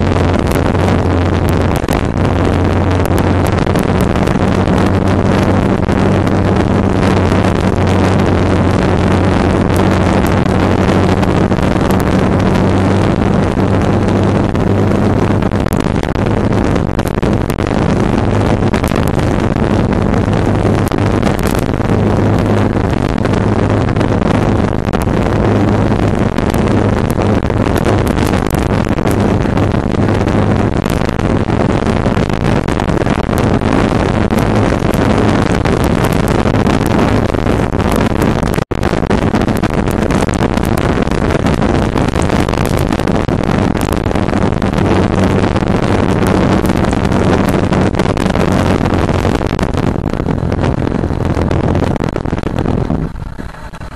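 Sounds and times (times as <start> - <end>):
motorcycle engine droning: 0.0 - 53.9
wind rush on microphone: 0.0 - 53.9.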